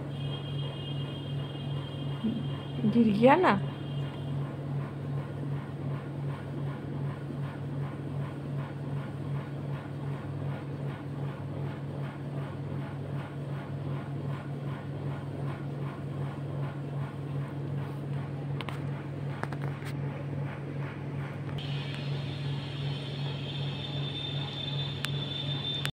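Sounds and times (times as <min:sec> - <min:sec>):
pulsing motor hum: 0:00.0 - 0:25.9.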